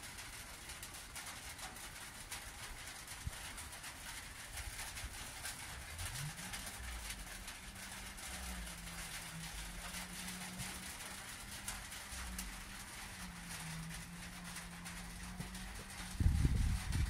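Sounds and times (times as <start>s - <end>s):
raindrops pattering on roof: 0.0s - 17.0s.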